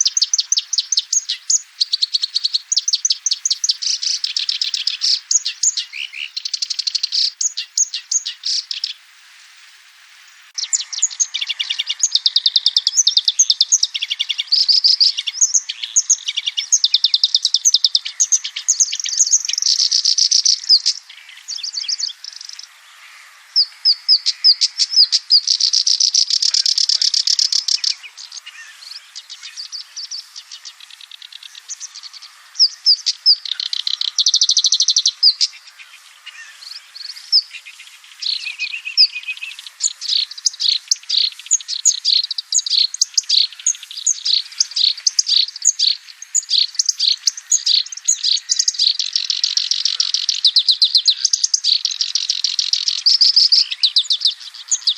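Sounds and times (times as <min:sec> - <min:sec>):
warbler singing: 0:00.0 - 0:54.9.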